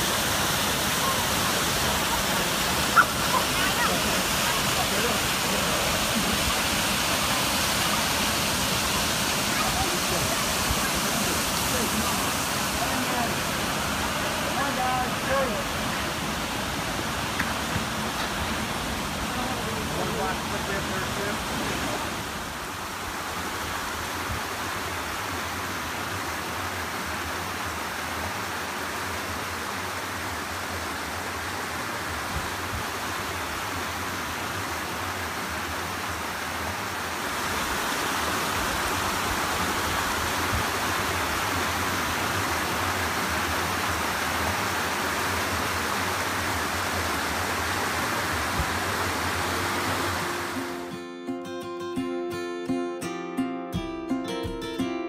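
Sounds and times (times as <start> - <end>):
creek rushing over rocks: 0.0 - 50.9.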